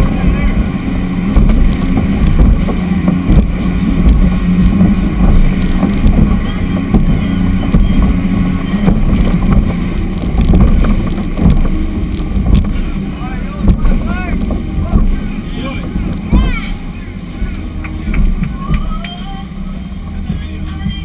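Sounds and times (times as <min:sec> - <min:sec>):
wind buffeting microphone: 0:00.0 - 0:19.6
outboard motors running: 0:00.0 - 0:21.0.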